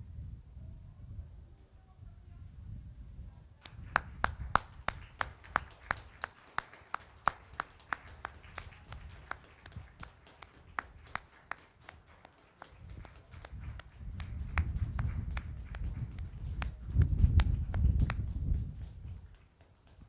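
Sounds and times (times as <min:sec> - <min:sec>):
people clapping in unison: 0:03.6 - 0:20.0.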